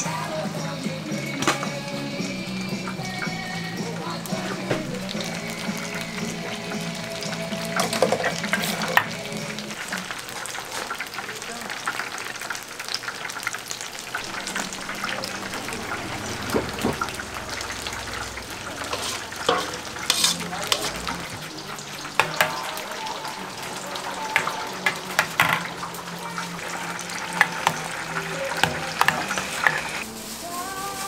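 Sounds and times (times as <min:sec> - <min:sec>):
food sizzling in oil: 0:00.0 - 0:31.0
metal utensils clinking: 0:01.2 - 0:11.3, 0:14.1 - 0:30.6.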